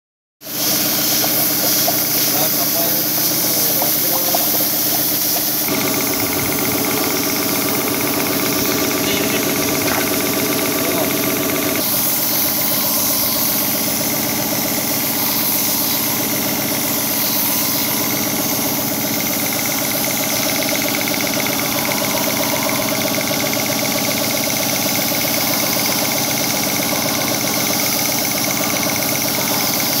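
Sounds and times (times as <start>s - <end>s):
spray gun hissing: 0.4s - 22.5s, 23.2s - 30.0s
air compressor running: 0.4s - 30.0s.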